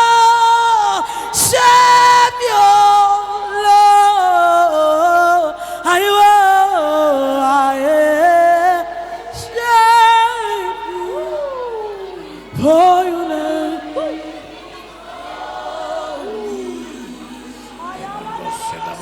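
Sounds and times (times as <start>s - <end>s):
woman singing worship song: 0.0s - 19.0s.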